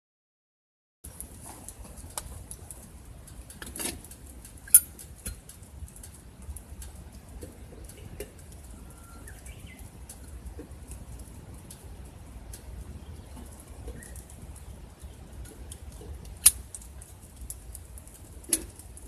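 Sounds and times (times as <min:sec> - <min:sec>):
small clicks and taps: 0:01.1 - 0:19.0.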